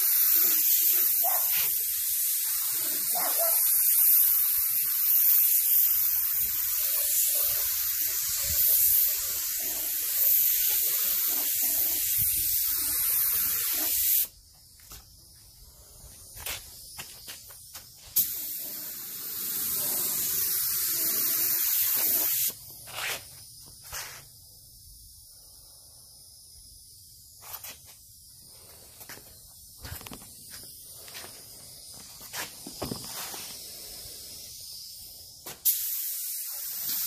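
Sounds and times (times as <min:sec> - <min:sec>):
paint spray gun hissing: 0:00.0 - 0:25.3, 0:26.0 - 0:37.0.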